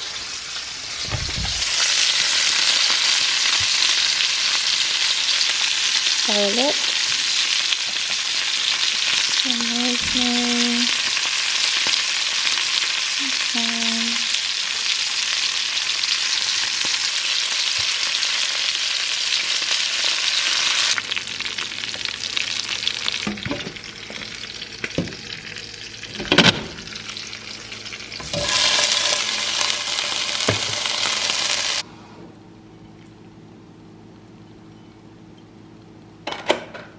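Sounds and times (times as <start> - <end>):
steaks sizzling in a skillet: 1.6 - 26.2, 26.8 - 31.8.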